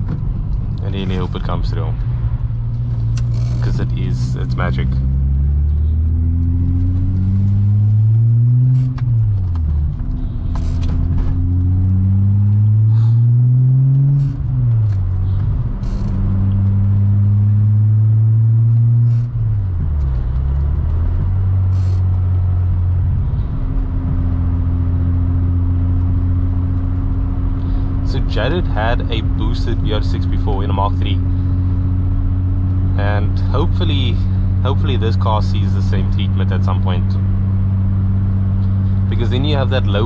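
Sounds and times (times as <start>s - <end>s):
car engine accelerating through gears: 0.0s - 40.0s.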